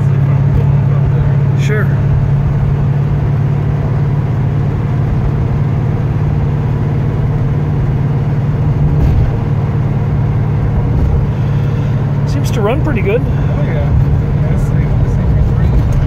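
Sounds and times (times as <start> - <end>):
car engine drone from cabin: 0.0 - 16.0.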